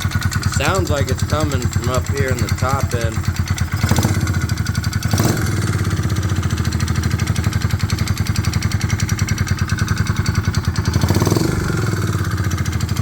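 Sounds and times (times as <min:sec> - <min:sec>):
motorcycle engine idling with ticking: 0:00.0 - 0:13.0.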